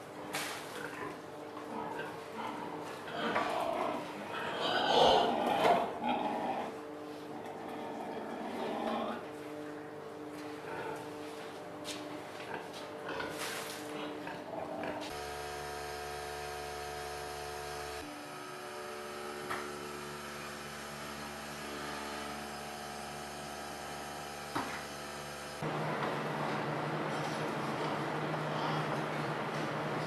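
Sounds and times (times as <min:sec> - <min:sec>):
electric hum and whine: 0:00.0 - 0:30.0.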